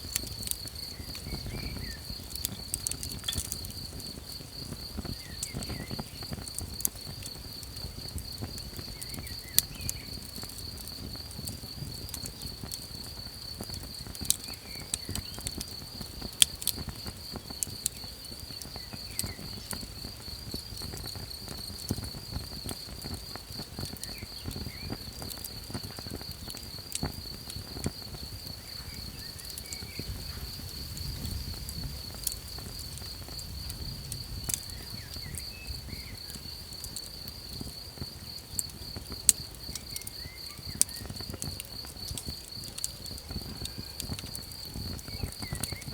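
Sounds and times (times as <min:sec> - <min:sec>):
campfire crackling and popping: 0:00.0 - 0:45.9
insects chirping in high trill: 0:00.0 - 0:45.9.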